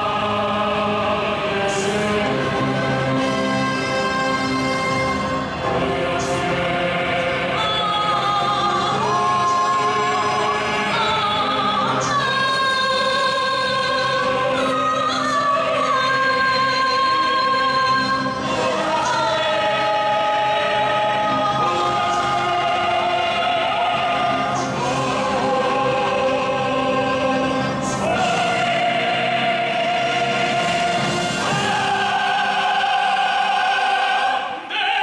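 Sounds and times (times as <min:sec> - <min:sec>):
choir singing operatic notes: 0:00.0 - 0:35.0.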